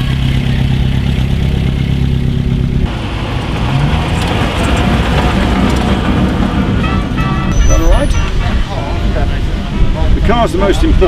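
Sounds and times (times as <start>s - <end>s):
car engine revving: 0.0s - 10.2s
car engines rolling past: 0.0s - 11.0s.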